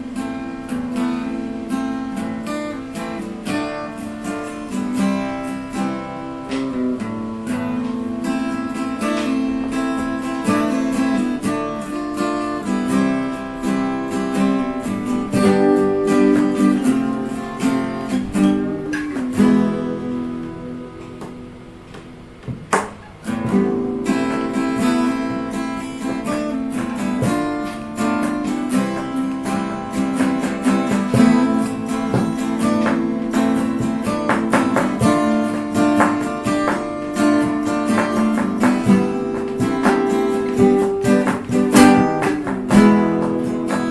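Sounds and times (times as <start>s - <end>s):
strummed acoustic guitar: 0.0s - 43.9s.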